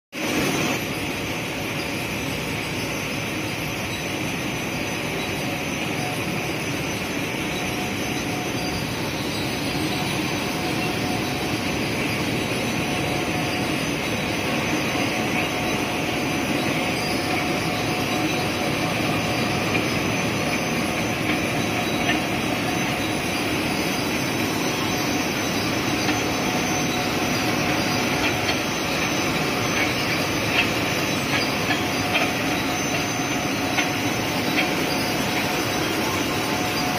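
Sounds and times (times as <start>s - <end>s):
printing machine whirring: 0.2s - 36.9s.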